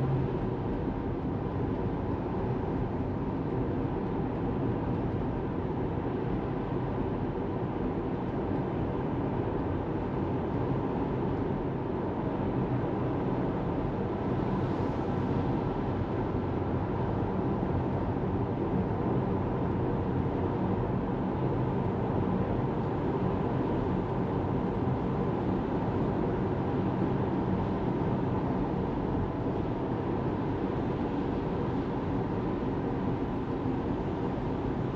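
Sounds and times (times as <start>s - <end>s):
road and tyre noise: 0.0s - 34.9s.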